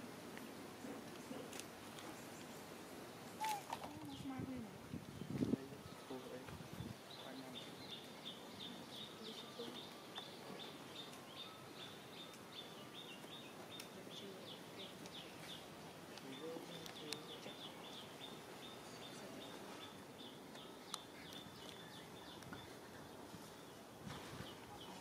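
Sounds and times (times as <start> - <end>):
outdoor ambience: 0.0 - 25.0.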